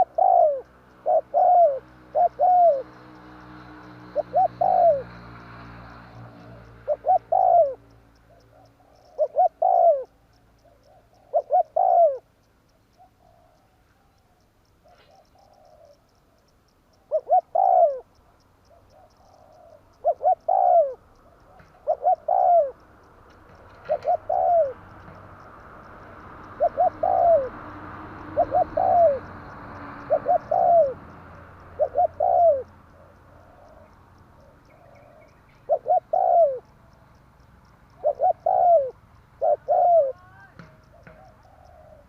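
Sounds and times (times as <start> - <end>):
dove cooing: 0.0 - 12.3, 14.8 - 16.4, 17.0 - 22.9, 23.5 - 36.8, 37.9 - 42.0.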